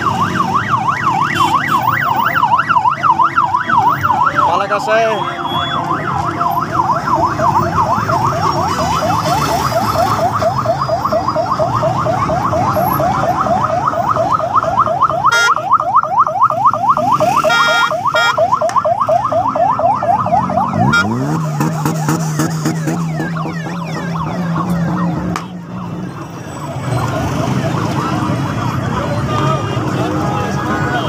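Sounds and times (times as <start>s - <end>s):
electronic siren yelping: 0.0s - 31.0s.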